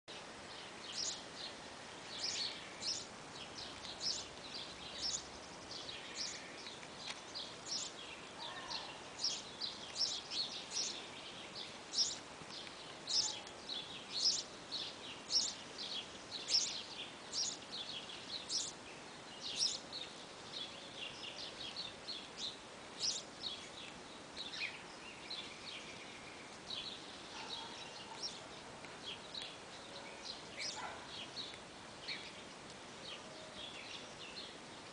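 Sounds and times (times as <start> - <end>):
faint outdoor hiss: 0.1 - 34.9
small birds chirping: 0.1 - 34.9.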